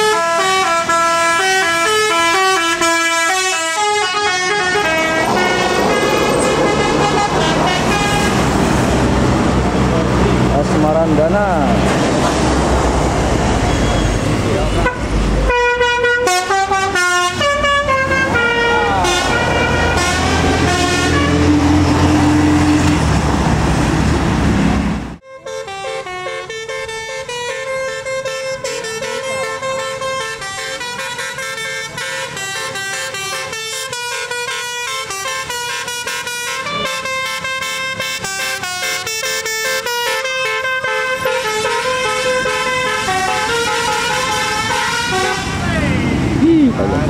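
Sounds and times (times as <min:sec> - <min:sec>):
musical bus horns: 0:00.0 - 0:09.4, 0:13.6 - 0:23.2, 0:25.2 - 0:46.8
heavy bus engine: 0:00.0 - 0:47.0.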